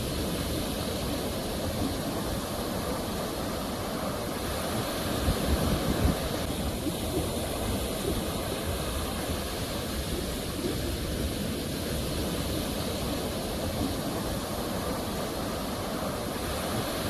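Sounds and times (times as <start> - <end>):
ocean waves on shore: 0.0 - 17.0.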